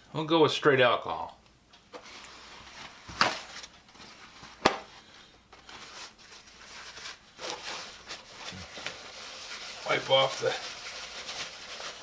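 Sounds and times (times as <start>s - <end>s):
faint rustling and scraping: 1.9s - 12.0s.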